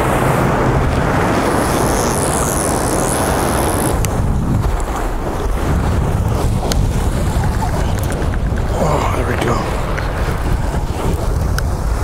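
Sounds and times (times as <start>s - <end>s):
surf washing: 0.0s - 12.0s
wind rumbling on microphone: 0.0s - 12.0s.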